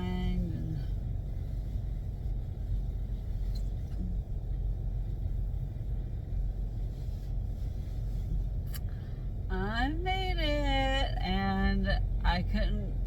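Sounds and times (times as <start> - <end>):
car cabin low rumble: 0.0 - 13.0.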